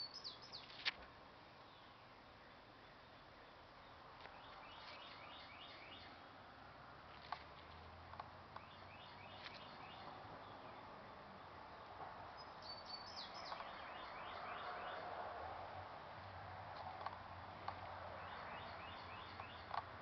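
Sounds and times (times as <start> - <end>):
small birds chirping: 0.0 - 1.0, 1.6 - 15.0, 16.2 - 20.0
outdoor background noise: 0.0 - 20.0.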